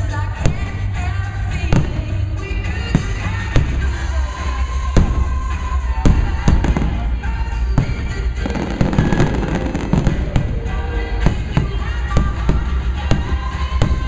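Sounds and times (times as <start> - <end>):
fireworks banging: 0.0 - 14.0
fireworks crackling: 0.0 - 14.0
music playing: 0.0 - 14.0.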